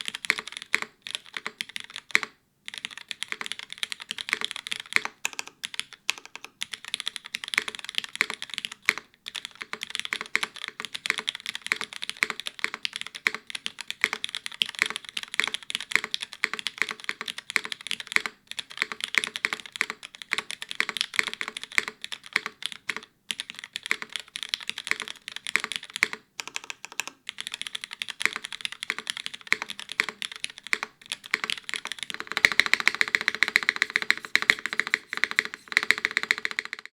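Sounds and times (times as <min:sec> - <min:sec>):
mechanical keyboard keystroke clacks: 0:00.0 - 0:36.9.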